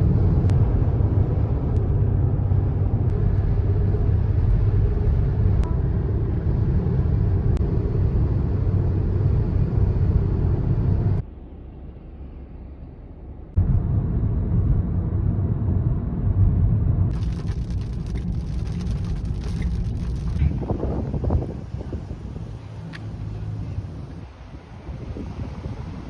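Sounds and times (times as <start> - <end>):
car road rumble: 0.0 - 26.0.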